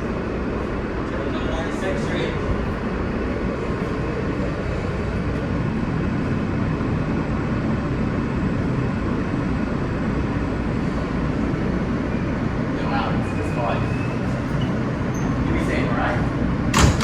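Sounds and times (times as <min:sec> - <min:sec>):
subway car rumbling on track: 0:00.0 - 0:17.0.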